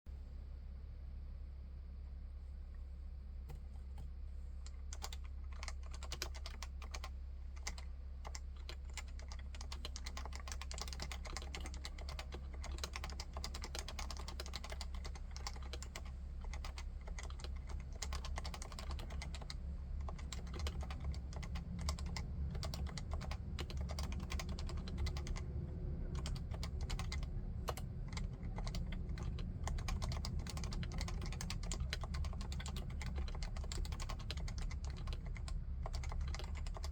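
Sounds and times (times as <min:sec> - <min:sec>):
keyboard typing: 0:04.7 - 0:36.9.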